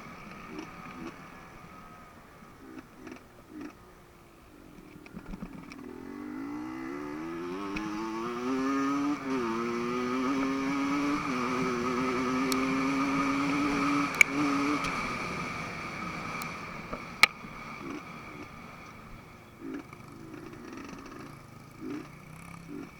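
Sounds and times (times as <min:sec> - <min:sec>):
dirt bike engine revving: 0:00.0 - 0:03.9, 0:05.2 - 0:22.9.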